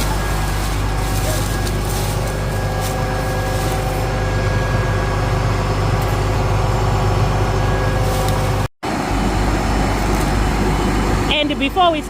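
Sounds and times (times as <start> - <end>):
steady machine tones: 0.0 - 11.7
combine harvester engine drone: 0.0 - 12.0.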